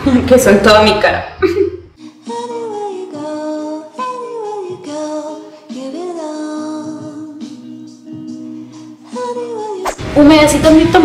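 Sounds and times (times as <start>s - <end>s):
woman singing slow melody: 2.0s - 10.9s.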